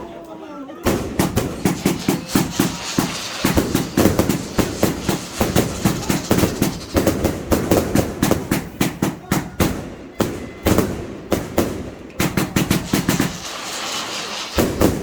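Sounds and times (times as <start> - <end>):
fireworks bangs and crackles: 0.8 - 15.0.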